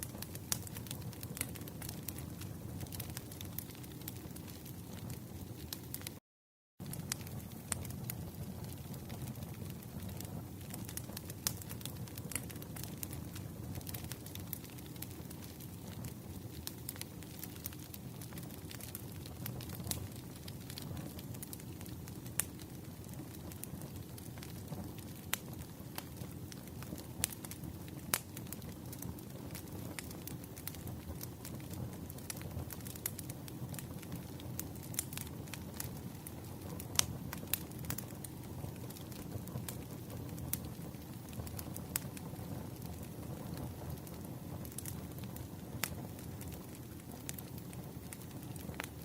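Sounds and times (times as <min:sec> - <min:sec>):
campfire crackling: 0:00.0 - 0:06.2, 0:06.8 - 0:49.0.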